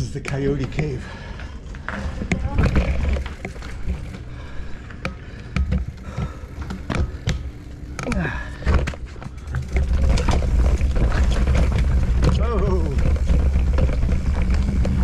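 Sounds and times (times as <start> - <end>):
bike chain and frame rattling: 0.0 - 15.0
bike tyres on rock: 0.0 - 15.0.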